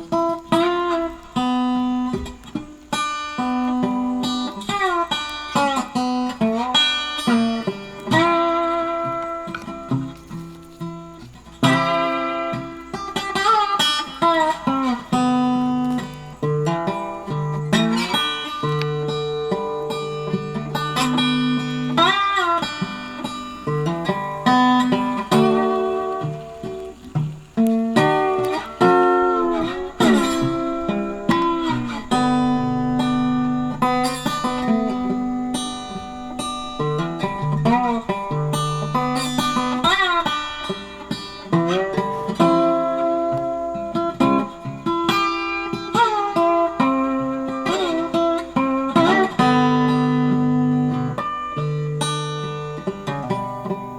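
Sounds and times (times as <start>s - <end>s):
acoustic blues guitar picking: 0.0s - 53.9s.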